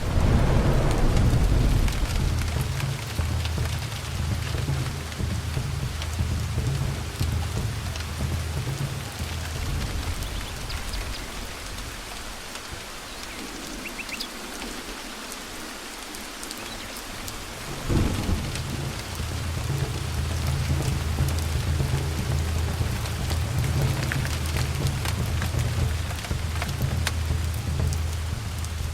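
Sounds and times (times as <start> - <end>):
sharp thunderclap: 0.0 - 12.5, 17.4 - 28.9
rolling thunder: 0.0 - 13.0, 17.2 - 28.9
steady rain: 0.0 - 28.9.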